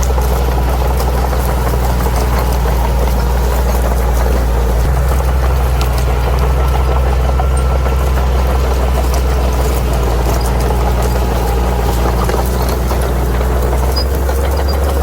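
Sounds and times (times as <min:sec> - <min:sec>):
bulldozer diesel engine drone: 0:00.0 - 0:15.0
faint ticks and crackles: 0:00.0 - 0:15.0.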